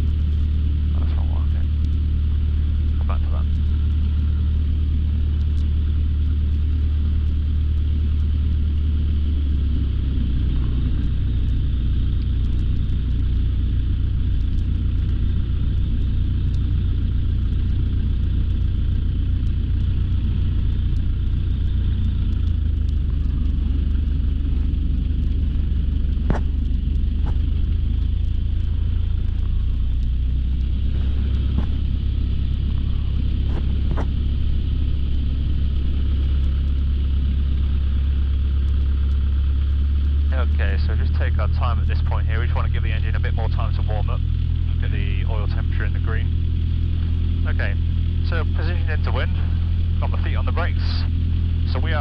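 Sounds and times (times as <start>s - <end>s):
light aircraft engine droning: 0.0s - 52.0s.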